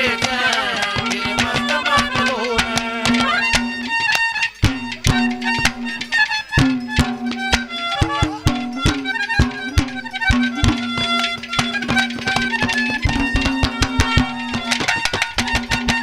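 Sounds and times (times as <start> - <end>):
fast hand-drum strikes: 0.0 - 16.0
held reed melody: 0.0 - 16.0.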